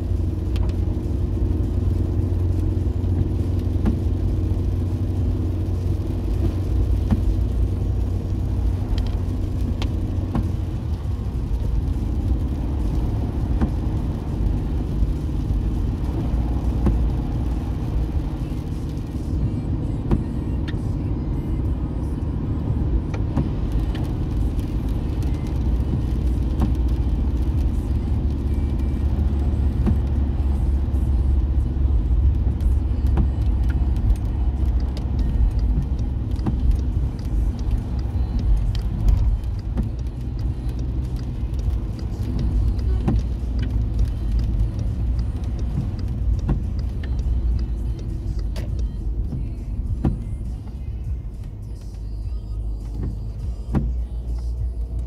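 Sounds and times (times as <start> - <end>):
car interior engine rumble: 0.0 - 55.0
tyres on wet road: 0.0 - 55.0.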